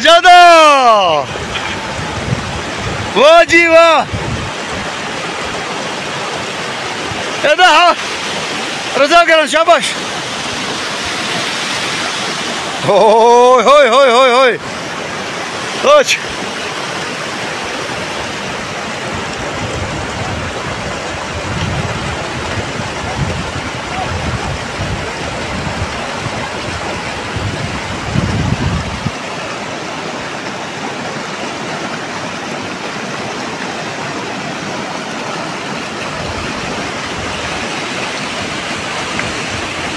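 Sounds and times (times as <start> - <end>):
river rushing through rapids: 0.0 - 39.9.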